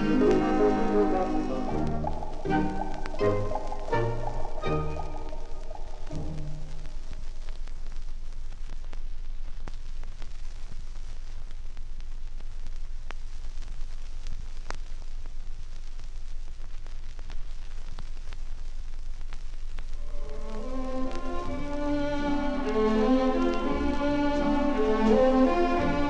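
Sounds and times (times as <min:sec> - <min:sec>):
vinyl clicks and pops: 0:00.0 - 0:26.0
vinyl record hiss and rumble: 0:00.0 - 0:26.0.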